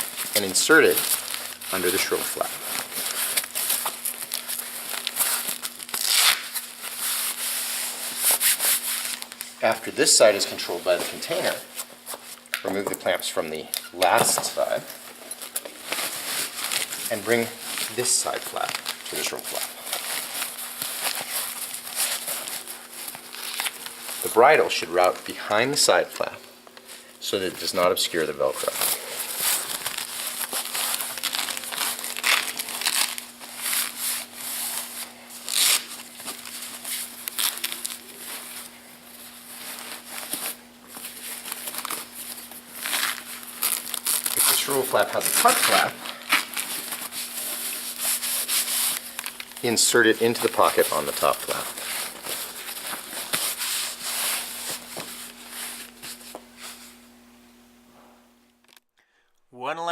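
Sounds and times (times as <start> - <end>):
nylon fabric rustling: 0.0 - 12.4, 14.0 - 26.0, 27.8 - 57.0.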